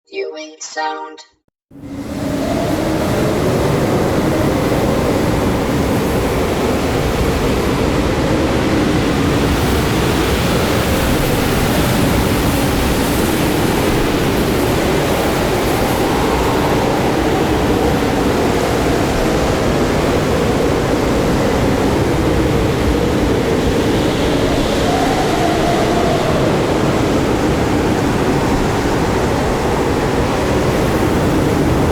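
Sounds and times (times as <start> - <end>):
blizzard wind howling: 1.8 - 31.9.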